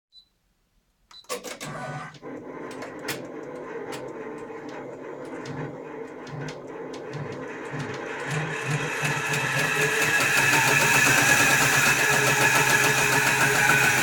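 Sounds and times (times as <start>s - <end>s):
embroidery machine whirring: 1.6s - 14.0s.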